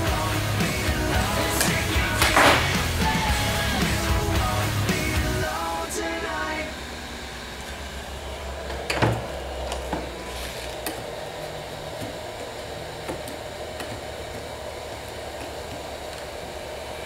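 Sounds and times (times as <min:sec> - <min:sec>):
heat gun humming: 0:00.0 - 0:17.0.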